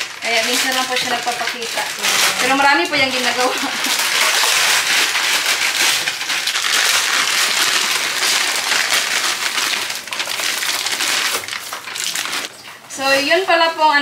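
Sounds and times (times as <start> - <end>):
dried noodles crackling: 0.0 - 14.0
plastic packs crinkling: 0.0 - 14.0.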